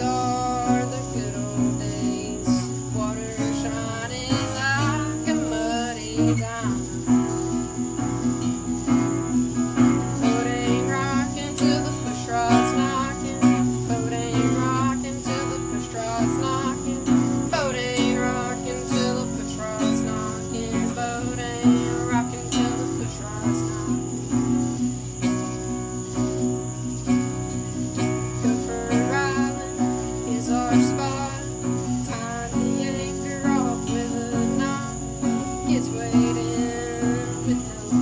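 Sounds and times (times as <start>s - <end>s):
acoustic guitar strumming: 0.0s - 38.0s
person singing: 0.0s - 38.0s.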